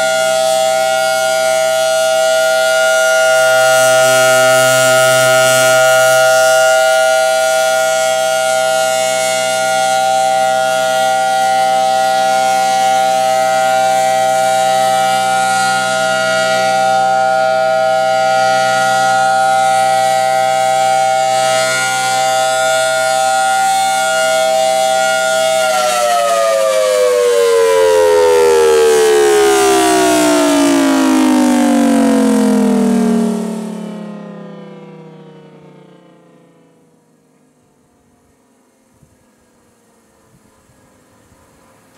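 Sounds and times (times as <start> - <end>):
siren steady tone: 0.0 - 41.9.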